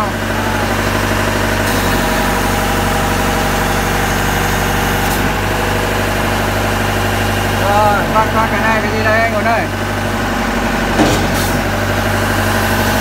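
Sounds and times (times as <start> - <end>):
boom lift engine running: 0.0 - 13.0.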